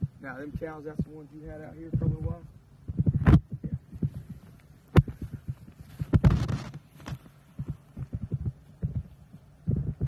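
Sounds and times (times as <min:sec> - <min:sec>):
low thumps on microphone: 0:00.0 - 0:10.0.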